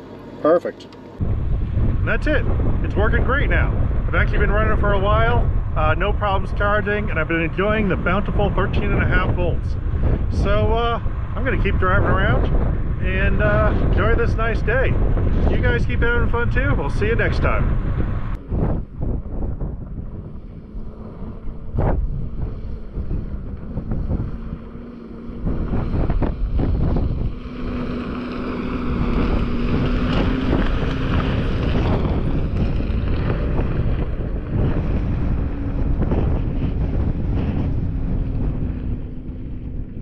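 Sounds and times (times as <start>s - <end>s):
wind rumbling on microphone: 1.2s - 40.0s.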